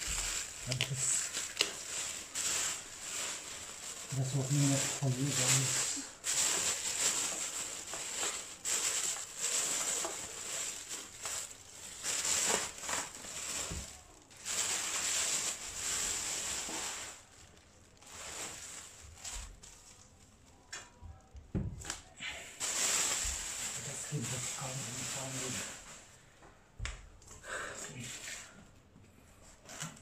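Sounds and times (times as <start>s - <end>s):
plastic bag crinkling: 0.0s - 26.3s.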